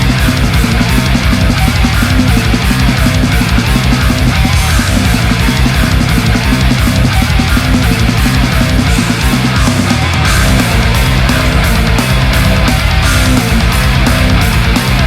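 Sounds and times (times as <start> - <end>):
distorted guitars: 0.0 - 15.0
drums: 0.0 - 15.0
heavy metal music: 0.0 - 15.0.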